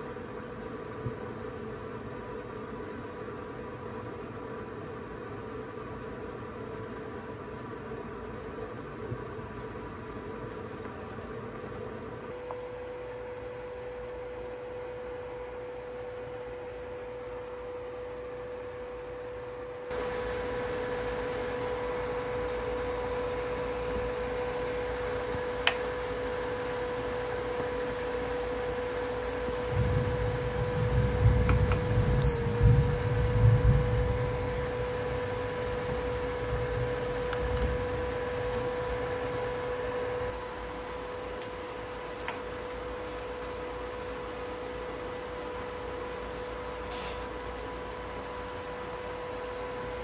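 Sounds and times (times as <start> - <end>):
cooktop electric hum: 0.0 - 50.0.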